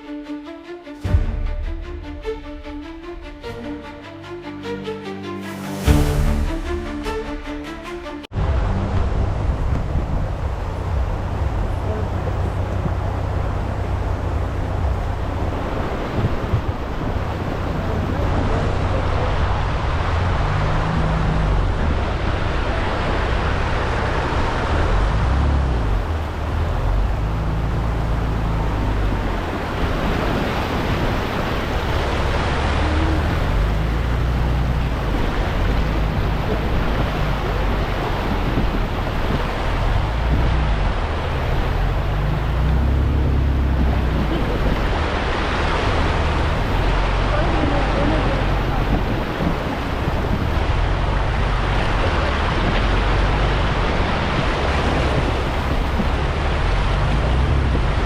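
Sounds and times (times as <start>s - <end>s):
steady rushing noise: 0.0s - 58.0s
vehicle engine low rumble: 5.9s - 58.0s.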